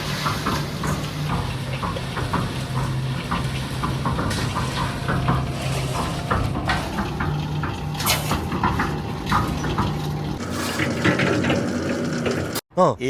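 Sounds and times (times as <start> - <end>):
scrapes and knocks: 0.0 - 12.4
low machine hum: 0.0 - 12.6.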